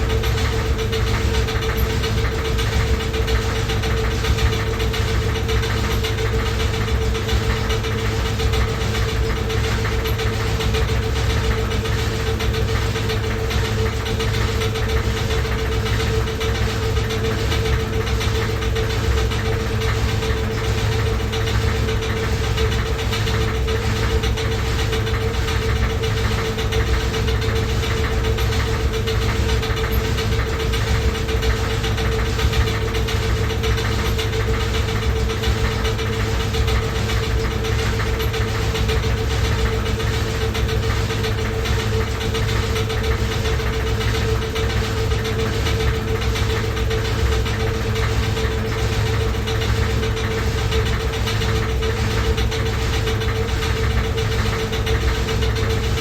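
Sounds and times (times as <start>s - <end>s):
continuous rattling knock: 0.0s - 56.0s
washing machine running: 0.0s - 56.0s.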